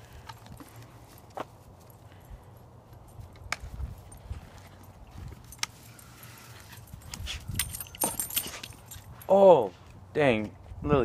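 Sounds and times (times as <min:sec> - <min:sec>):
rustling on dry grass: 0:00.0 - 0:10.8.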